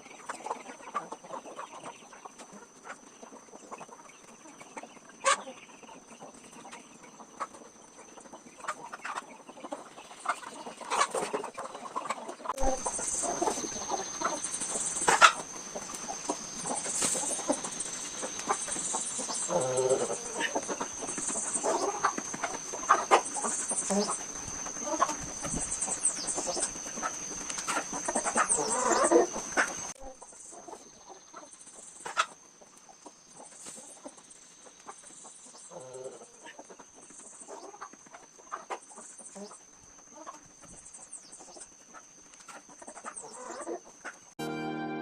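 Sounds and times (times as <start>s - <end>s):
chickens clucking: 0.0s - 44.4s.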